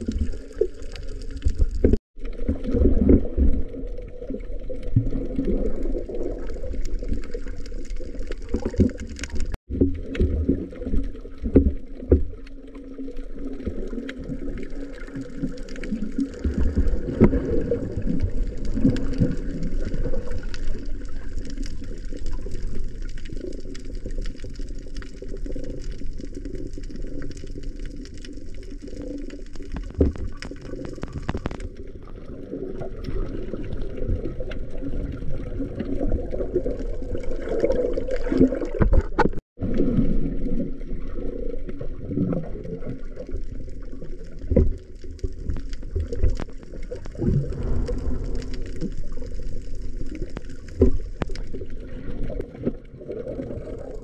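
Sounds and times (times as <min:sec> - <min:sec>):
muffled underwater water wash: 0:00.0 - 0:54.0.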